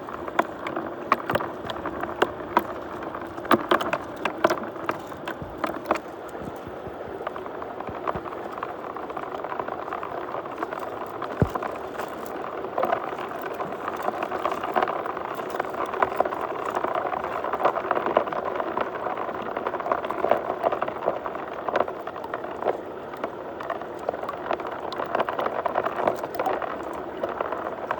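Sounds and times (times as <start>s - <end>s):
stones clicking in water: 0.1s - 27.9s.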